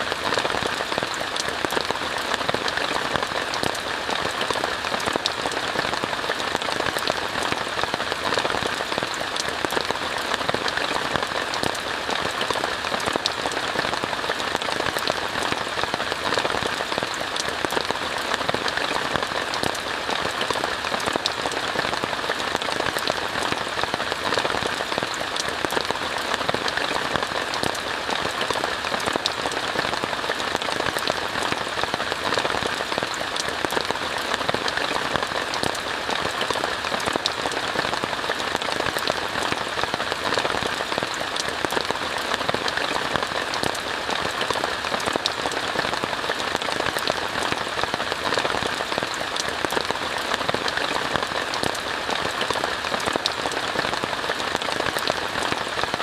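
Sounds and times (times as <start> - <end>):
rain falling on a tent: 0.0 - 56.0.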